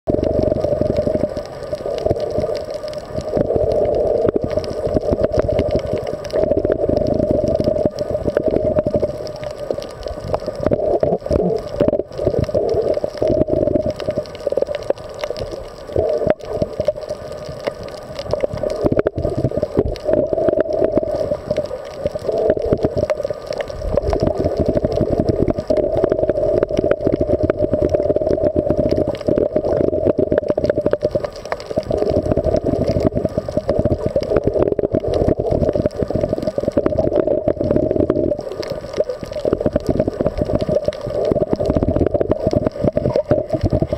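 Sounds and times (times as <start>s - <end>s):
muffled underwater drone: 0.1s - 43.9s
underwater crackling: 0.1s - 43.9s.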